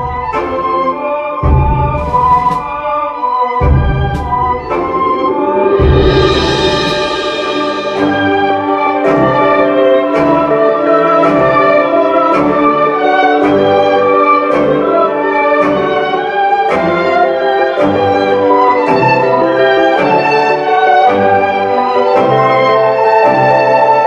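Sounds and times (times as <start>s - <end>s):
orchestral music with violins: 0.0s - 24.0s.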